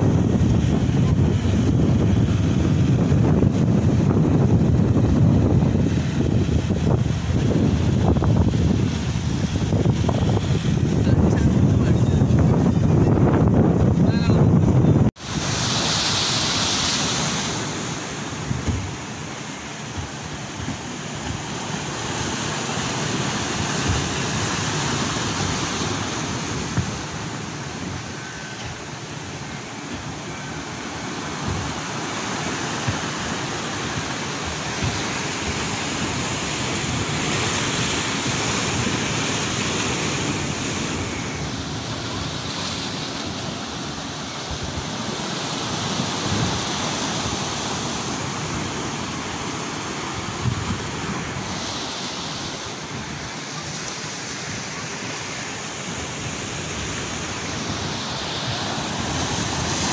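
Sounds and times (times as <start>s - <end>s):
wind buffeting microphone: 0.0s - 54.9s
sea waves washing: 0.0s - 59.9s.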